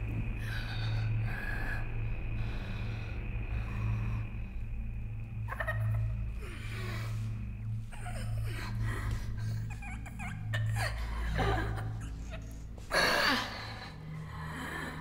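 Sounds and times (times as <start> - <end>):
low steady hum: 0.0 - 15.0
soft breathy vocal sounds: 0.0 - 15.0.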